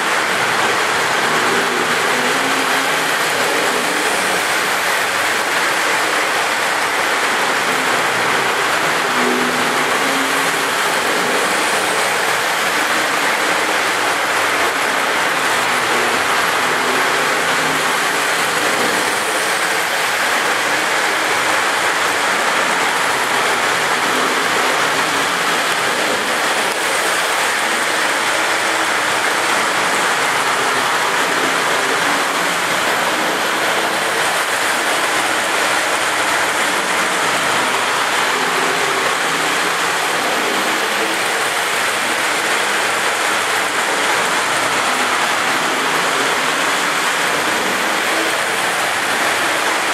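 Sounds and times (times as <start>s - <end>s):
model train motors humming: 0.0s - 49.9s
train wheels rolling over rail joints: 0.0s - 49.9s.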